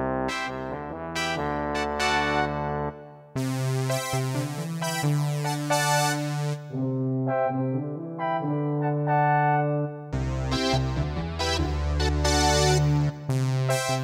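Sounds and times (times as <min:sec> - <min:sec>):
synth keyboard notes and chords: 0:00.0 - 0:14.0.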